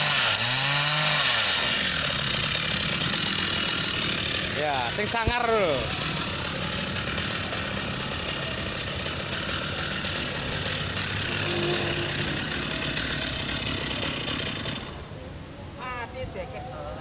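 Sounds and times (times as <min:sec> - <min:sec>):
chainsaw engine running: 0:00.0 - 0:15.2.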